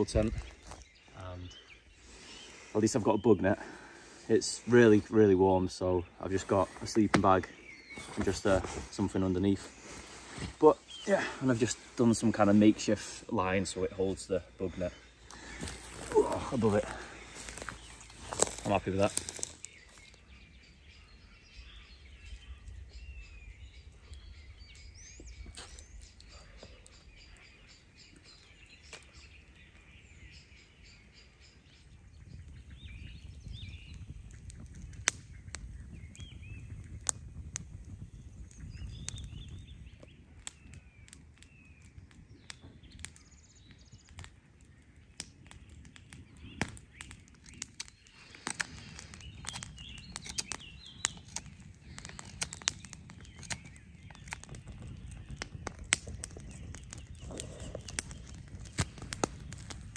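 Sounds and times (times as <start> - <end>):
birds singing: 0.0 - 59.9
campfire crackling and popping: 0.0 - 59.9.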